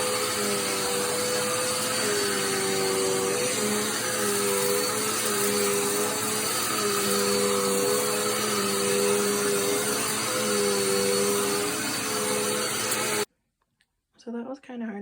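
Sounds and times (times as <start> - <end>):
vacuum cleaner running: 0.0 - 13.3.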